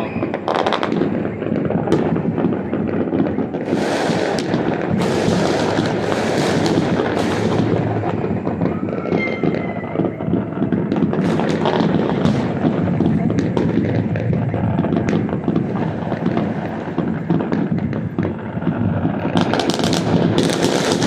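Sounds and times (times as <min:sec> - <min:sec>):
fireworks rumbling and crackling: 0:00.0 - 0:21.0
loud firework bursts: 0:00.0 - 0:21.0.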